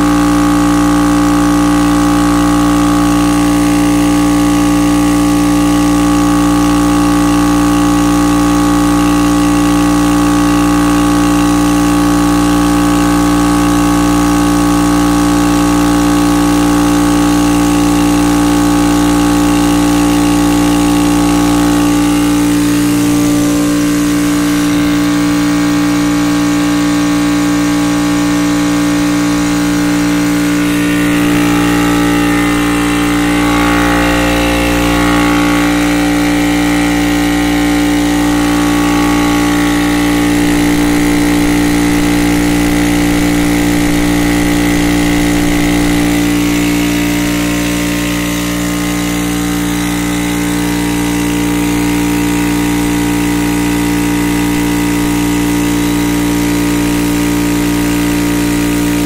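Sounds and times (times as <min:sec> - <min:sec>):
air compressor running: 0:00.0 - 0:59.0.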